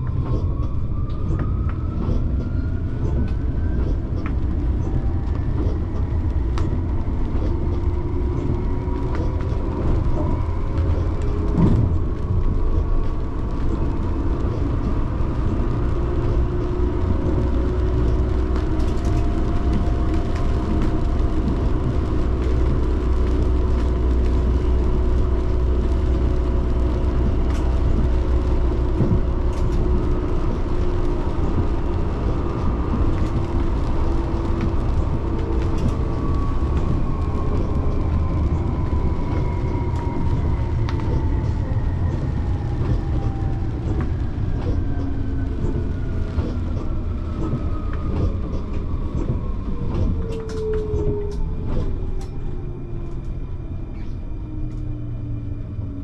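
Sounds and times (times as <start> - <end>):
tram motor whine: 0.0 - 56.0
wheels rumbling on rail: 0.0 - 56.0.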